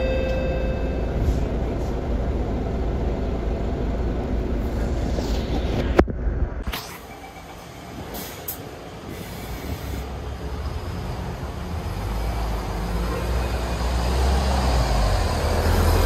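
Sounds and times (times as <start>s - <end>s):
bus diesel engine pulling away: 0.0s - 5.9s, 6.7s - 16.0s.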